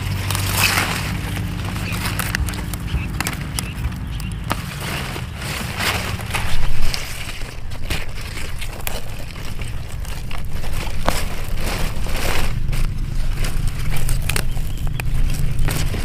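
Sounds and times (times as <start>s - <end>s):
crackles of soil and roots: 0.0s - 16.0s
hands scraping dry soil: 0.0s - 16.0s
leaves rustling: 0.0s - 16.0s
low rumble: 0.0s - 16.0s.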